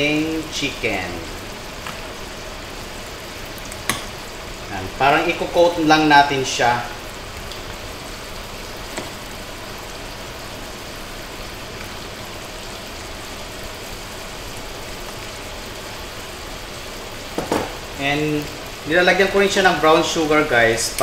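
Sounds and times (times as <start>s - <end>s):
glaze sizzling in a frying pan: 0.0s - 21.0s.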